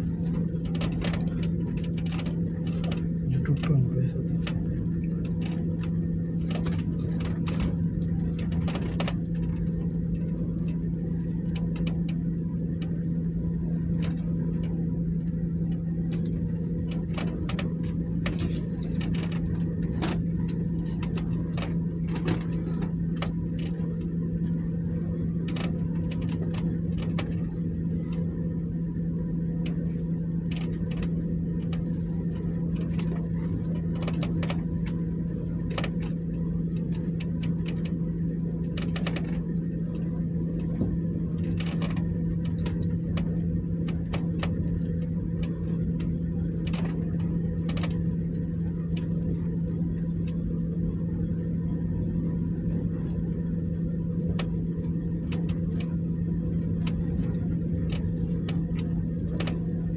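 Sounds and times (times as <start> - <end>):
short clicks and light rattles: 0.0 - 28.4, 29.6 - 59.9
low hum with rumble: 0.0 - 59.9.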